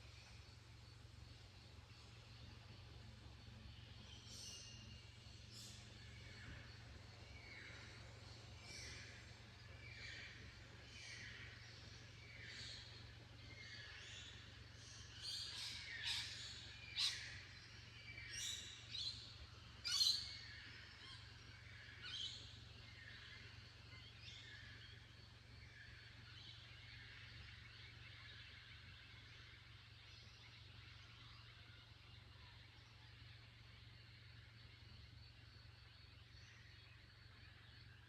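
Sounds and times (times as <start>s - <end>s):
birds calling: 0.2s - 38.0s.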